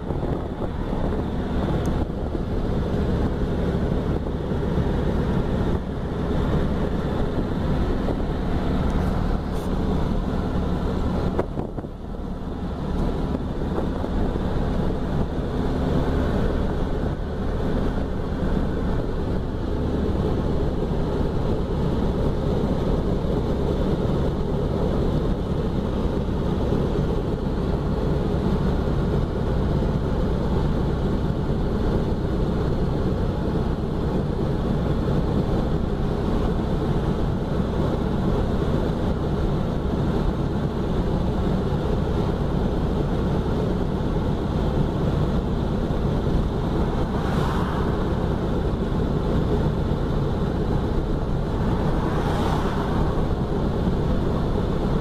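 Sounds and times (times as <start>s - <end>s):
car engine running: 0.0s - 55.0s
road and wind noise: 0.0s - 55.0s.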